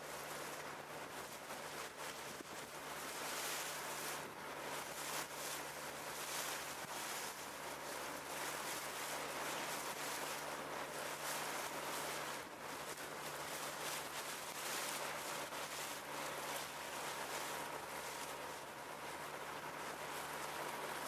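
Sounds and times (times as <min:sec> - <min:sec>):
boat engine humming: 0:00.0 - 0:21.0
rushing water: 0:00.0 - 0:21.0.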